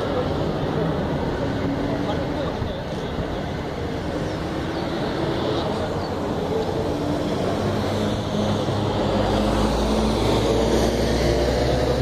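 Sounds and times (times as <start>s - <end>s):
jets flying overhead: 0.0s - 12.0s.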